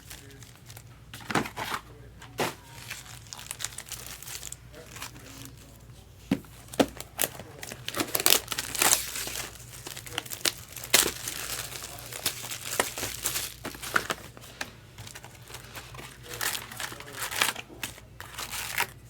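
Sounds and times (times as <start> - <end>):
card pack wrappers crinkling: 0.0 - 19.0.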